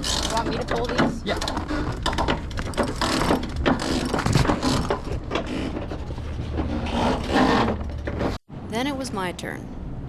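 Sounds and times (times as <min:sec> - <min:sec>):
winch ratcheting: 0:00.0 - 0:08.3.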